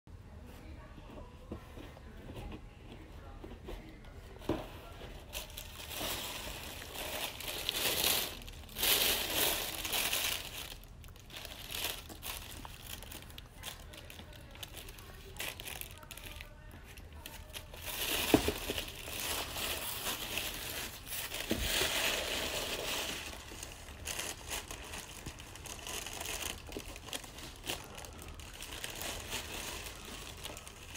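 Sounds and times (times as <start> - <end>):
tissue paper rustling: 4.9 - 16.4, 17.2 - 30.9.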